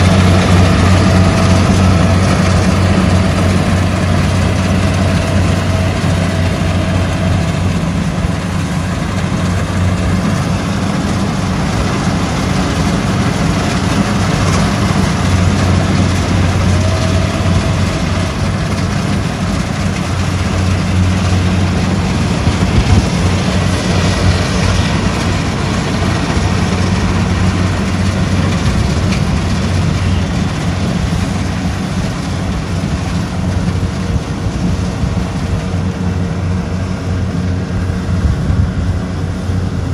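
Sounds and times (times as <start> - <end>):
combine harvester engine hum: 0.0 - 39.9
threshing works rushing: 0.0 - 39.9.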